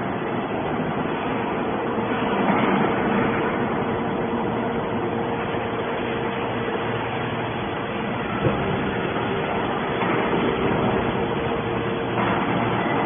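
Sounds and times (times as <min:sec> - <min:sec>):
hydraulic power unit humming: 0:00.0 - 0:13.0
workshop machinery noise: 0:00.0 - 0:13.0.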